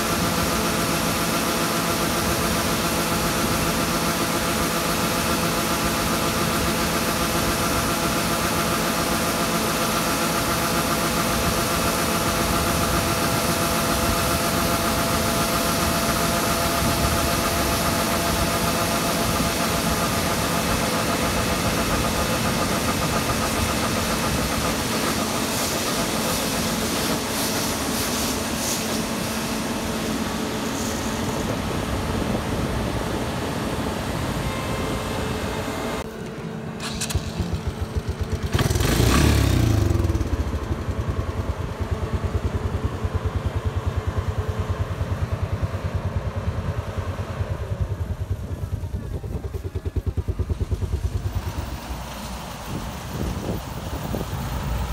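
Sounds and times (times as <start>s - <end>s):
harvest machinery engine running: 0.0s - 54.9s.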